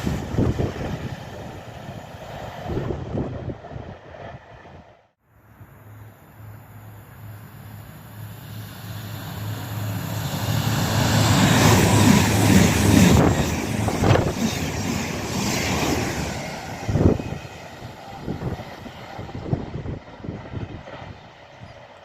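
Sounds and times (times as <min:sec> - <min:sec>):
train passing: 0:00.0 - 0:22.0.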